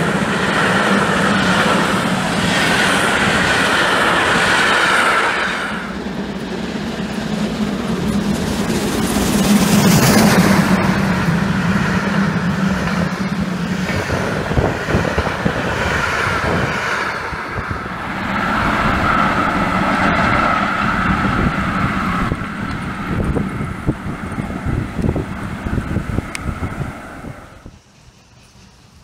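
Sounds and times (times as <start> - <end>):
steam train rushing past: 0.0 - 29.0
train rolling: 0.0 - 29.0.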